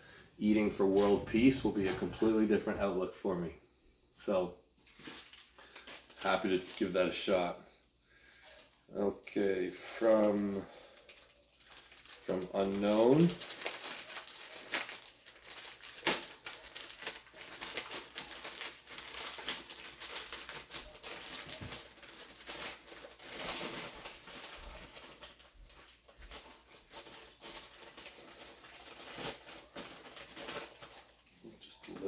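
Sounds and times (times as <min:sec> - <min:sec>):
packaging rustling and crinkling: 0:04.3 - 0:07.5, 0:08.2 - 0:32.0.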